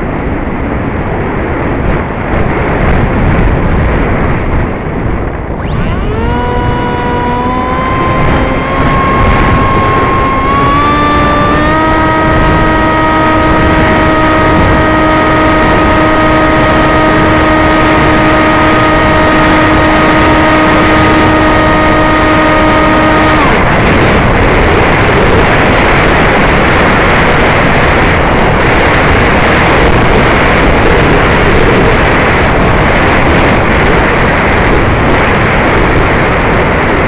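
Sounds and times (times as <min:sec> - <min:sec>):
electric motor and propeller whine: 0:00.0 - 0:37.0
loud rushing wind: 0:00.0 - 0:37.0.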